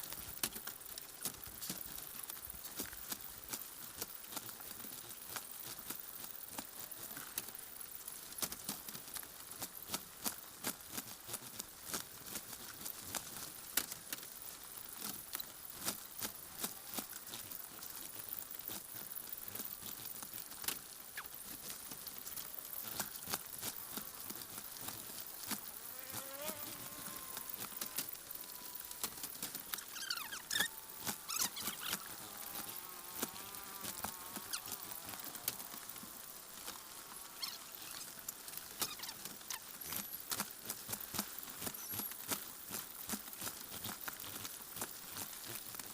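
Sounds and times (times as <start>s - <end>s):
chickens tapping and scratching: 8.4s - 45.9s.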